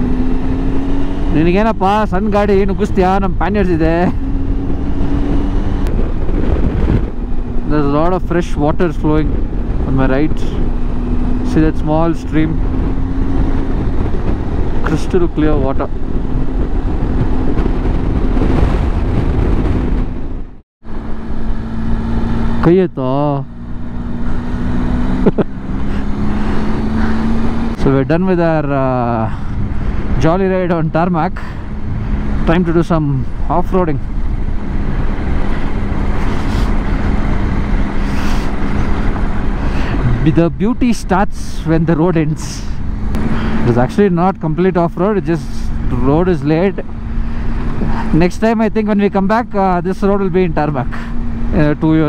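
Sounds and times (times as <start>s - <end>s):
wind buffeting on microphone: 0.0s - 22.4s, 23.5s - 52.0s
motorcycle engine drone: 0.0s - 52.0s.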